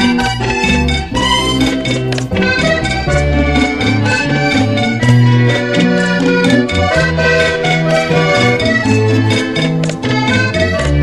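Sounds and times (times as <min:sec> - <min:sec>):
accordion melody: 0:00.0 - 0:11.0
bass line: 0:00.0 - 0:11.0
steady dance beat: 0:00.0 - 0:11.0.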